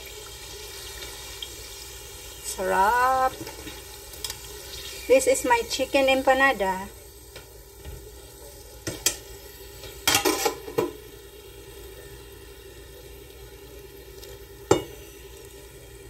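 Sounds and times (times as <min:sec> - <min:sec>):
frying oil sizzling: 0:00.0 - 0:16.0.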